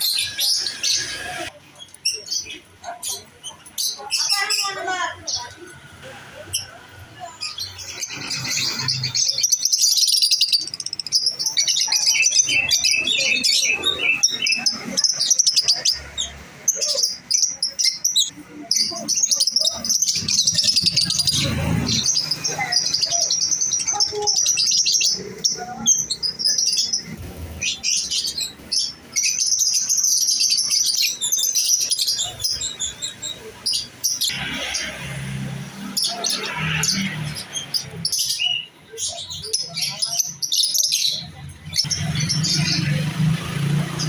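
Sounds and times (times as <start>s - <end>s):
lovebirds chirping shrilly: 0.0s - 44.0s.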